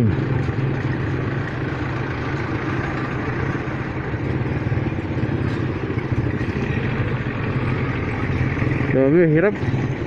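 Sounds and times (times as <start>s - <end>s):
motorcycle engine running: 0.0s - 10.0s
vehicle engines idling: 0.0s - 10.0s.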